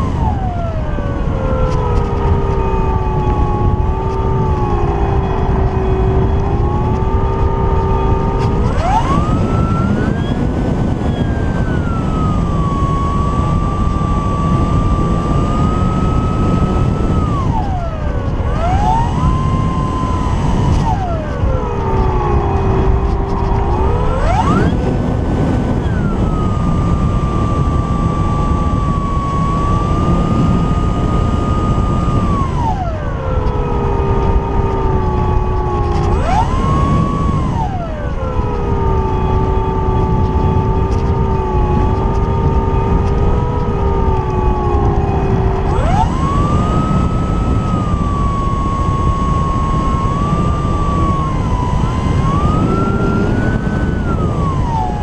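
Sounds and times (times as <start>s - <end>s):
model plane propeller whining: 0.0s - 55.0s
wind rushing over camera: 0.0s - 55.0s.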